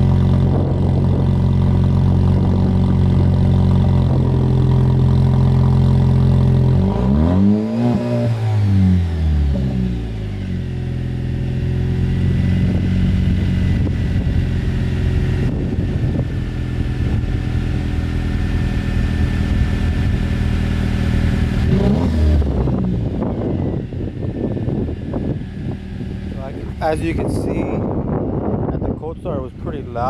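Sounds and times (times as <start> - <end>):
loud car engine exhaust: 0.0 - 30.0.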